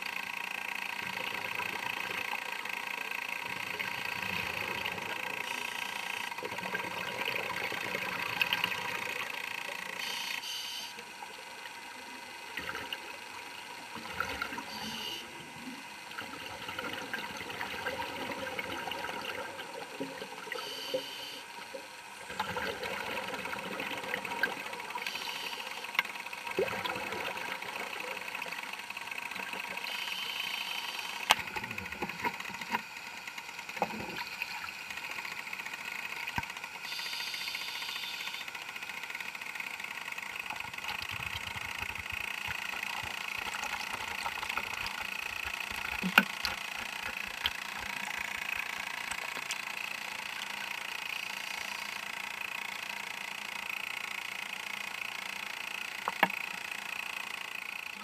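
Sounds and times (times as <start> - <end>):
mechanical hum: 0.0 - 58.0.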